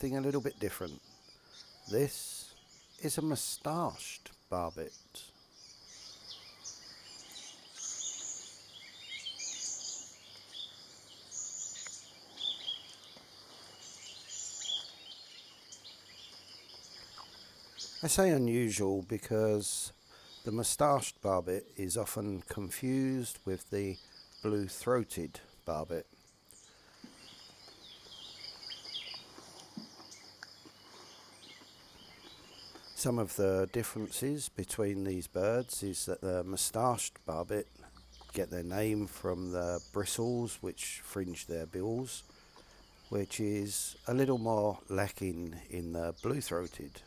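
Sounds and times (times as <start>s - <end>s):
high insect drone: 0.0s - 47.0s
small birds chirping: 0.0s - 47.0s.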